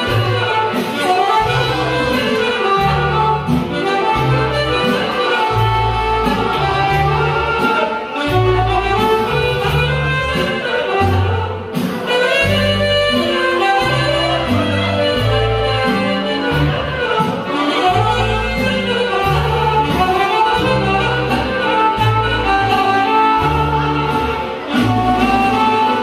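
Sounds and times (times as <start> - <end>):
accordion: 0.0 - 26.0
bass line: 0.0 - 26.0
saxophone: 0.0 - 26.0.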